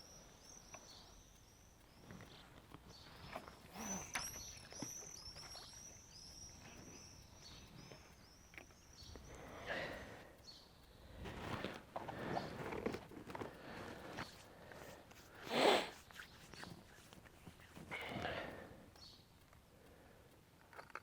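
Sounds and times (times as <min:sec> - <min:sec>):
small bird chirping: 0:00.0 - 0:13.0, 0:14.0 - 0:19.6
faint rustling and clicks: 0:00.0 - 0:21.0.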